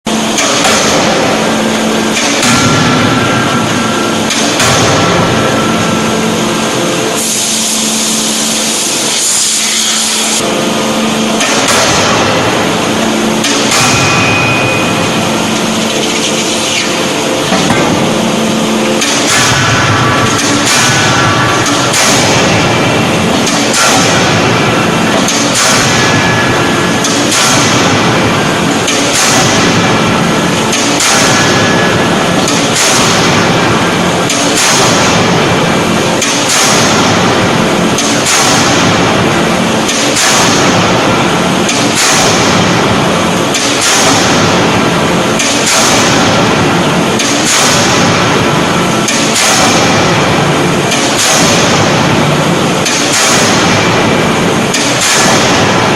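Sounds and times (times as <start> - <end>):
loud machine noise: 0.0 - 55.9
forging hammer heavy blows: 0.1 - 10.6, 11.2 - 55.9.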